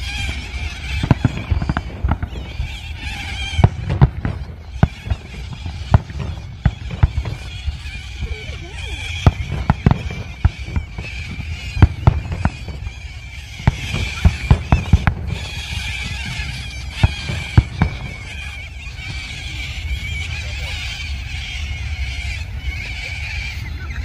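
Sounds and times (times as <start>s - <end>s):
fireworks bangs: 0.0s - 23.5s
cockatoos screeching: 0.0s - 24.0s.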